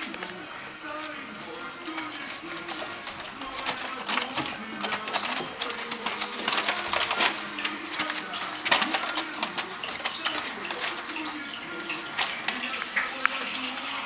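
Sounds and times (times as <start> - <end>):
newspaper rustling and crackling: 0.0 - 14.0.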